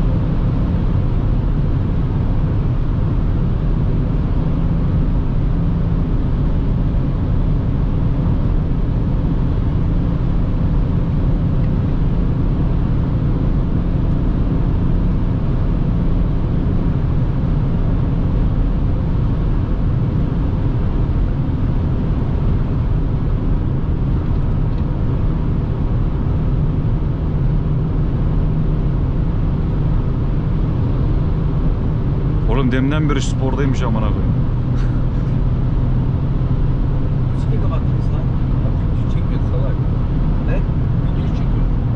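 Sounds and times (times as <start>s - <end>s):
car engine hum: 0.0s - 41.9s
road and wind noise: 0.0s - 41.9s.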